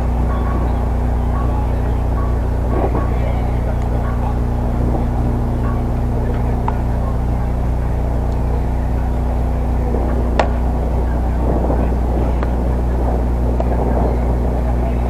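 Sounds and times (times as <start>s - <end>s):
outdoor ballfield ambience rumble: 0.0s - 15.0s
sharp crack: 0.0s - 15.0s.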